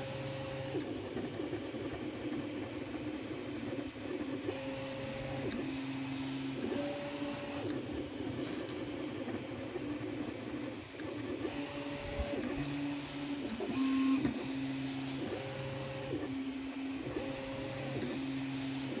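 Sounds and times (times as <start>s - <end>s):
mechanical whir: 0.0s - 19.0s.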